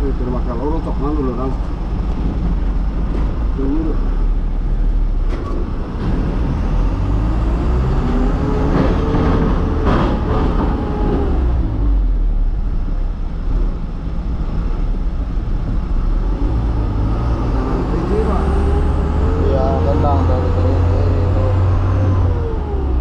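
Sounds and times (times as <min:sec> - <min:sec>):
diesel engine: 0:00.0 - 0:23.0
road rumble: 0:00.0 - 0:23.0.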